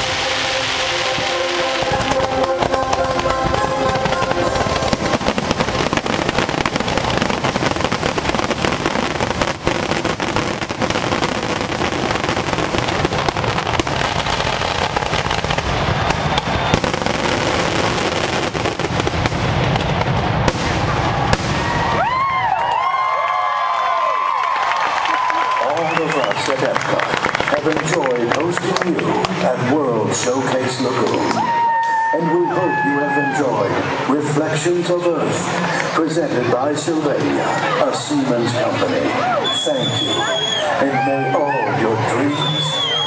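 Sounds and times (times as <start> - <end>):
fireworks crackling: 0.0 - 43.0.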